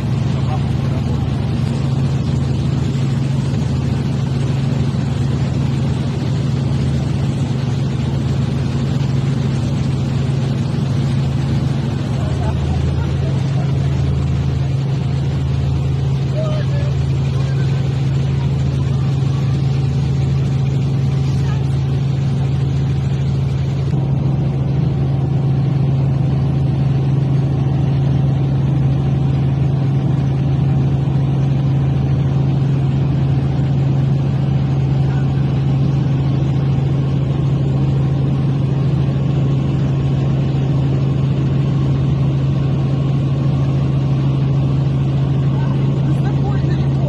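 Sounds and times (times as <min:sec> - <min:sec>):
helicopter engine and rotor hum: 0:00.0 - 0:47.0.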